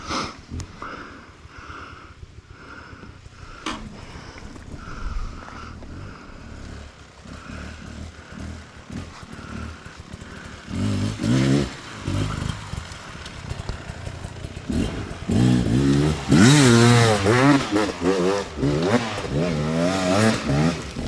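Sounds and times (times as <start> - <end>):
dirt bike engine idling: 0.0 - 21.0
dirt bike revving: 3.4 - 21.0.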